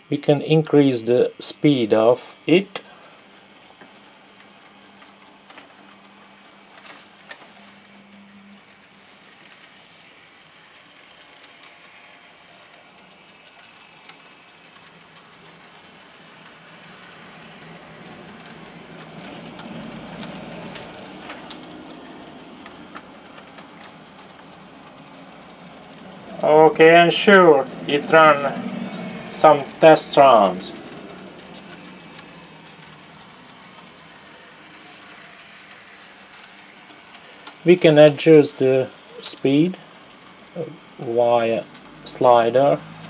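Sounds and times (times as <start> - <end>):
model train motor whirring: 0.6 - 43.0
light clicks of wheels: 2.8 - 43.0.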